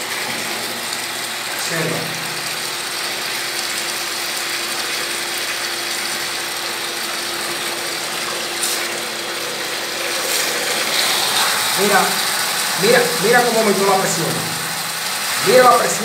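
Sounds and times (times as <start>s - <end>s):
electric water pump motor hum: 0.0s - 16.0s
water pouring into bucket: 0.0s - 16.0s.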